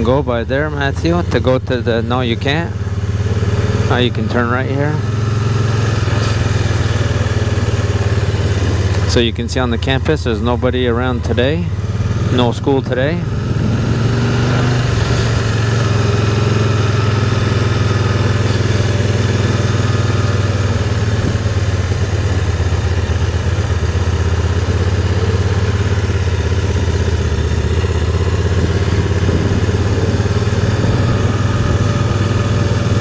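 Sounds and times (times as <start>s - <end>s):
motorcycle engine running steadily: 0.0s - 33.0s.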